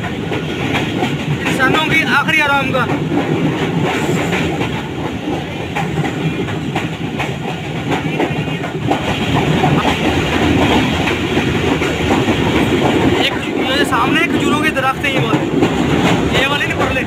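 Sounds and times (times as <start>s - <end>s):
train rumbling on track: 0.0s - 17.0s
wheels clacking: 0.0s - 17.0s.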